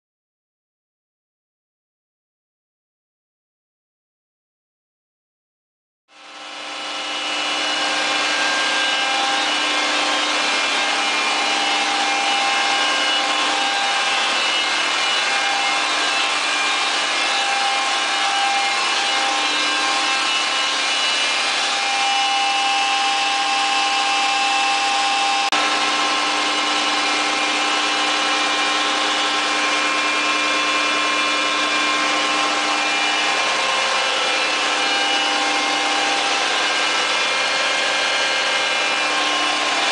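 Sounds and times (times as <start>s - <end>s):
steady whining tones: 6.6s - 39.9s
generator engine drone: 7.0s - 39.9s.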